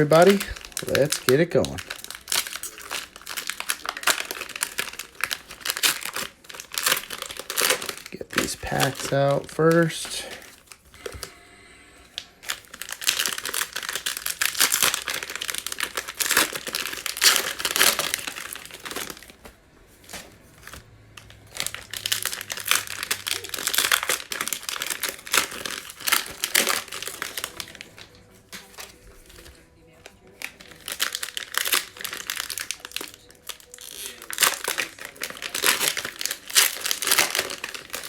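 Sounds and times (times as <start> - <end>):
cellophane crinkling and tearing: 0.0 - 11.4, 12.1 - 38.0.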